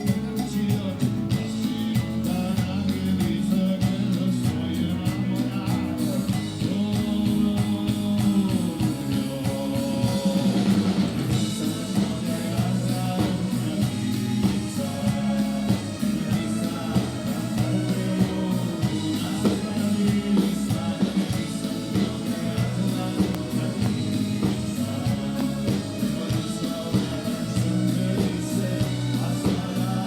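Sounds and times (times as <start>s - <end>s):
drum kit: 0.0s - 30.0s
electric guitar: 0.0s - 30.0s
person singing: 0.0s - 30.0s.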